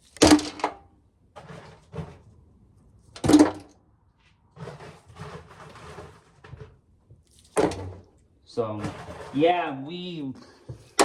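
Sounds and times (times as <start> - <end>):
corn clattering in a pail: 0.0 - 2.4, 3.2 - 10.2.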